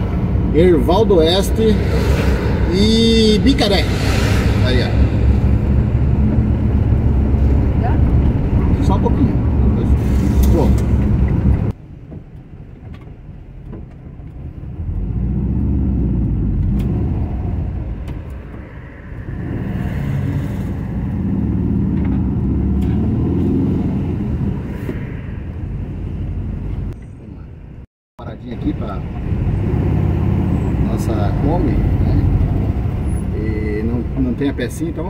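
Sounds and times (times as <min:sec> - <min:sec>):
van engine and road rumble: 0:00.0 - 0:35.0.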